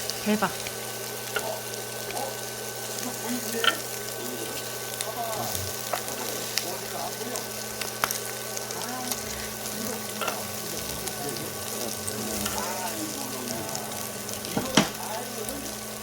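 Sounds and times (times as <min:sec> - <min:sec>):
meat sizzling: 0:00.0 - 0:16.0.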